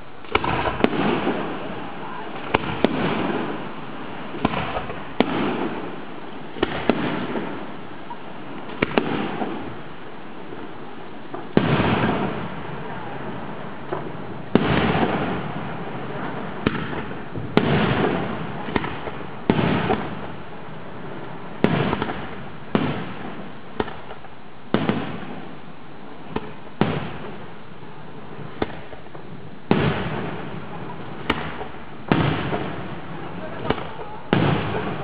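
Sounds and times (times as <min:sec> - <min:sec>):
fireworks bangs: 0:00.0 - 0:35.0
fireworks rumble: 0:00.0 - 0:35.0.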